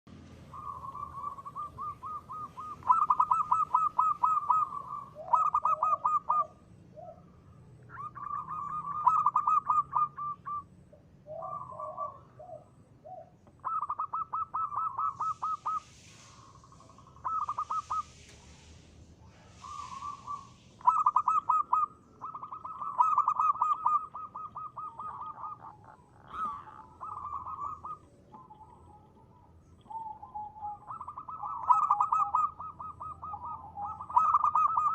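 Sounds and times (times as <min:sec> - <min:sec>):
dove cooing in trilled notes: 0:00.5 - 0:18.2, 0:19.6 - 0:34.9.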